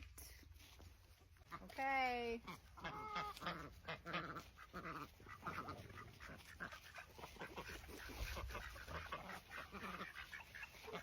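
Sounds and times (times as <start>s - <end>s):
soft turkey sounds: 0.0s - 11.0s.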